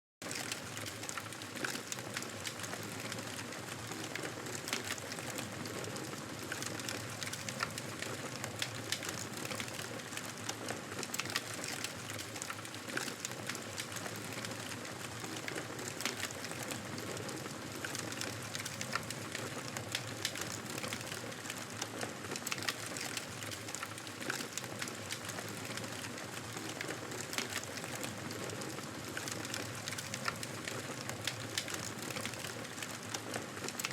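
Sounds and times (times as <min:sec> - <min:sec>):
wood fire crackling and popping: 0:00.2 - 0:33.9.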